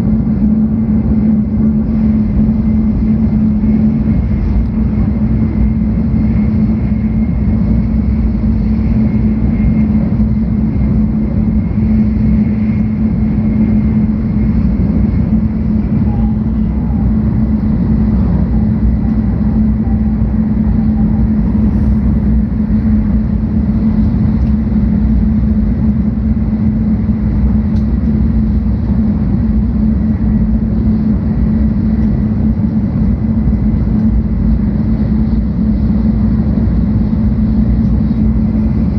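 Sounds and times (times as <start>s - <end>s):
train cabin rumble and hum: 0.0s - 38.9s.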